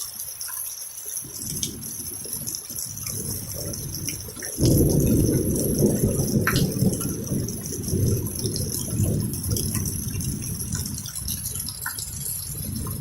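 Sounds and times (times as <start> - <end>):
steady rain: 0.0 - 13.0
thunder rumbling: 1.2 - 13.0.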